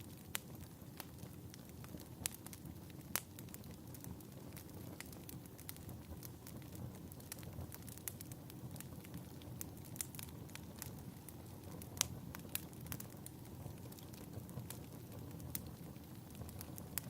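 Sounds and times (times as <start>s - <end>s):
fireplace crackling: 0.0s - 17.0s.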